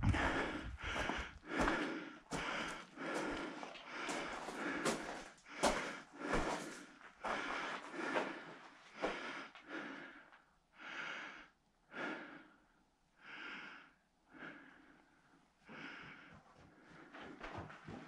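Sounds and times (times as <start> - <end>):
person breathing hard: 0.0 - 18.0.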